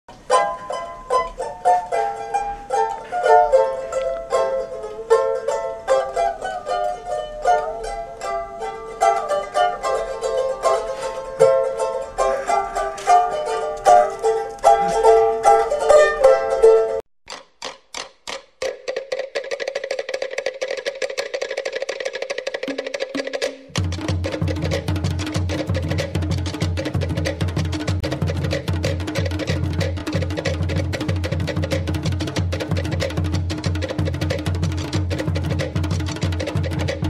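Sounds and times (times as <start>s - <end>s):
plucked string instrument tune: 0.1s - 17.0s, 23.6s - 37.0s.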